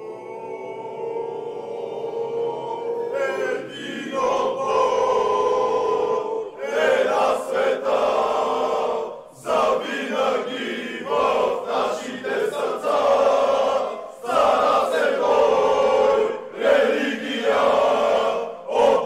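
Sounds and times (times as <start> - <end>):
crowd chanting in unison: 0.0 - 19.0.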